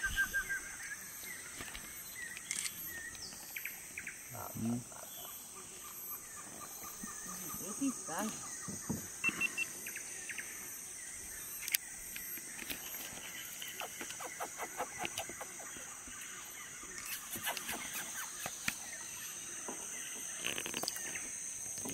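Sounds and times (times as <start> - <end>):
bird chirps: 0.0 - 19.5
insects droning: 0.0 - 21.9.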